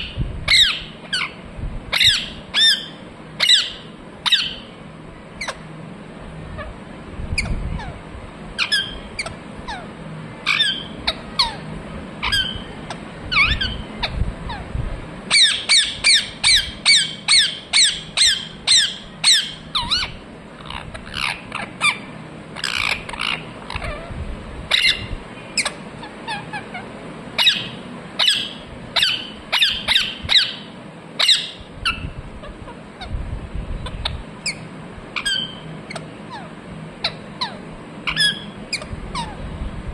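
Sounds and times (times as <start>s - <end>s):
parakeet squawking: 0.0s - 4.8s, 5.4s - 5.7s, 7.4s - 8.0s, 8.6s - 14.7s, 15.3s - 33.2s, 33.8s - 39.4s.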